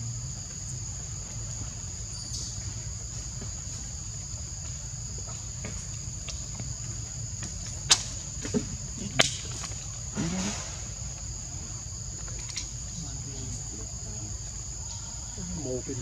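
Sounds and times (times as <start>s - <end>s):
forest insects chorus: 0.0s - 16.0s.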